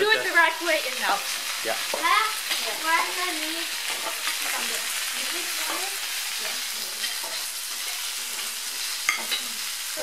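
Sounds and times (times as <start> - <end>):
food sizzling on grill: 0.0 - 10.0.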